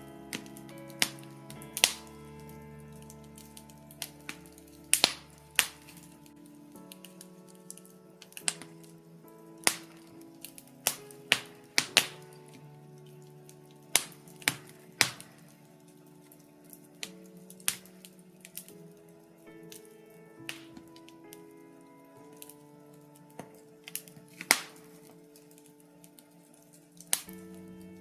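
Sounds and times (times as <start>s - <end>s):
log fire crackling and popping: 0.0s - 8.8s, 9.6s - 19.0s, 22.3s - 28.0s
soft music of held chords: 0.0s - 28.0s.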